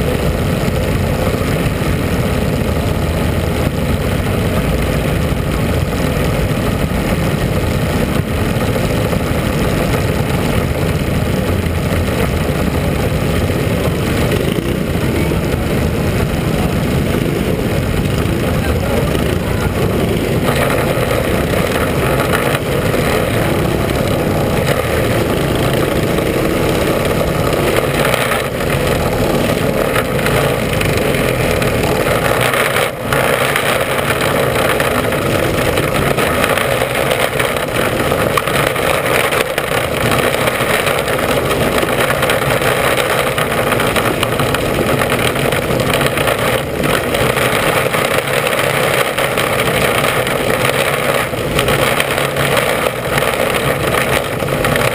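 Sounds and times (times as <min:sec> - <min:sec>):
race car engine running: 0:00.0 - 0:54.9.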